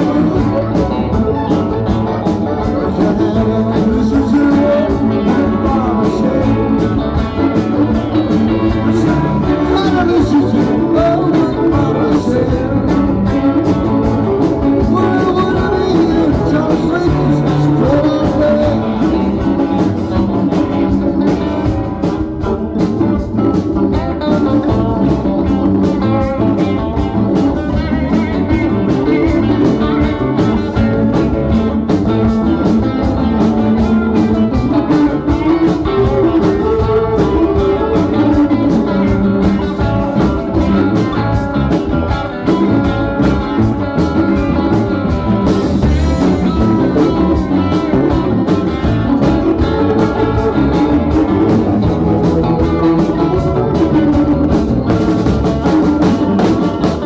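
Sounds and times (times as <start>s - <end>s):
drum kit: 0.0s - 57.0s
electric bass: 0.0s - 57.0s
electric guitars: 0.0s - 57.0s
keyboard: 0.0s - 57.0s.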